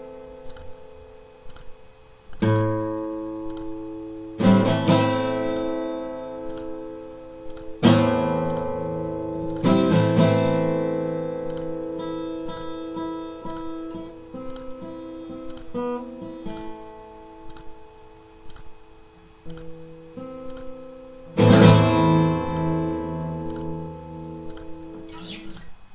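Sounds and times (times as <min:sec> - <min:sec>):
strummed acoustic guitar chords: 0:00.0 - 0:18.6, 0:19.4 - 0:25.8.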